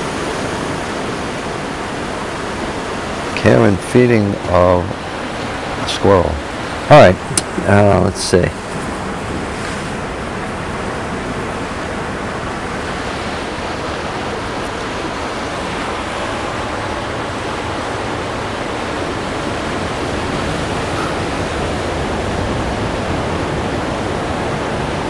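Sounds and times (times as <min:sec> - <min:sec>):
ocean surf on rocky shore: 0:00.0 - 0:25.0.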